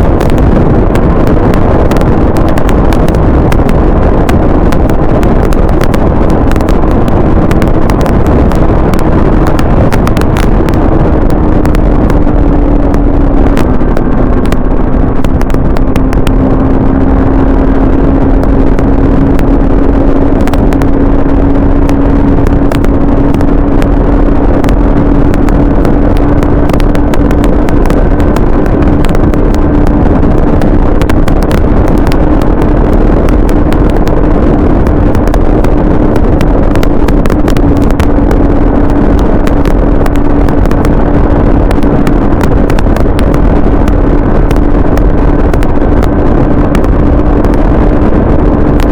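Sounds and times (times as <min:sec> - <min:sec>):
motorcycle engine cruising: 0:00.0 - 0:48.9
wind buffeting microphone: 0:00.0 - 0:48.9.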